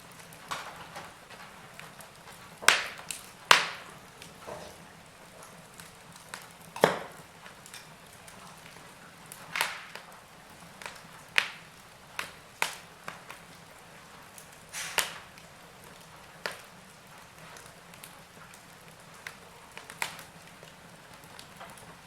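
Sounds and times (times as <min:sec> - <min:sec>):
soft steady hiss: 0:00.0 - 0:22.0
wood fire crackling: 0:00.0 - 0:22.0.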